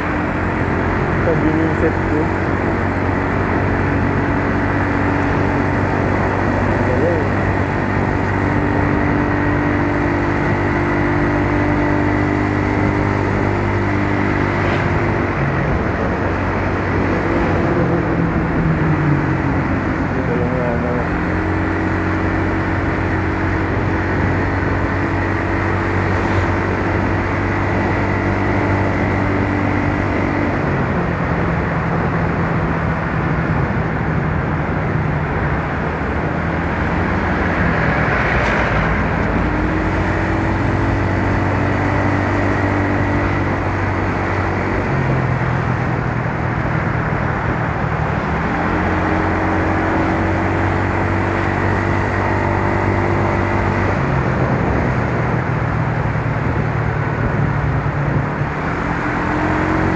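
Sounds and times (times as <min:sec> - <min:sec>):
scooter engine running: 0:00.0 - 0:59.9
wind and road noise: 0:00.0 - 0:59.9.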